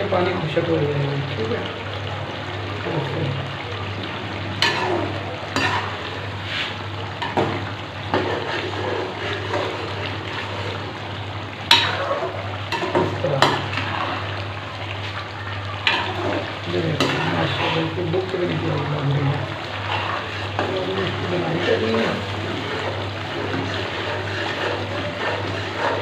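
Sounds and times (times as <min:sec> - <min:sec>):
chicken sizzling in a wok: 0:00.0 - 0:26.0.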